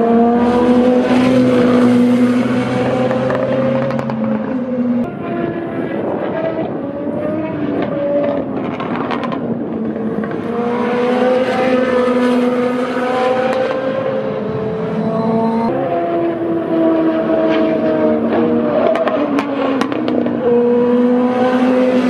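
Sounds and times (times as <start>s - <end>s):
racing cars passing: 0.0s - 22.0s.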